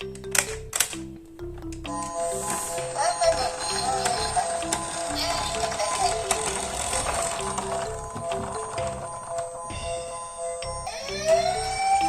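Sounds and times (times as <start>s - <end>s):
melody over bass line: 0.0s - 12.0s.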